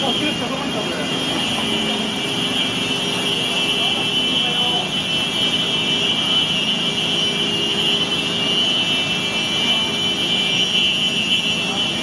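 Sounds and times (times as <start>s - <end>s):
floodwater rushing rumble: 0.0s - 12.0s
steady high-pitched tone: 0.0s - 12.0s.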